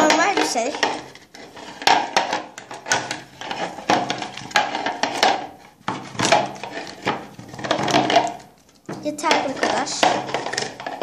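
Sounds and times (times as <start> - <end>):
metal pan scraping and clattering: 0.0 - 11.0.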